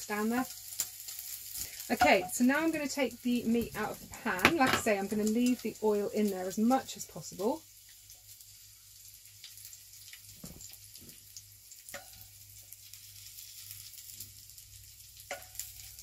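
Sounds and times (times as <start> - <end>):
fat sizzling in a pan: 0.0 - 16.0.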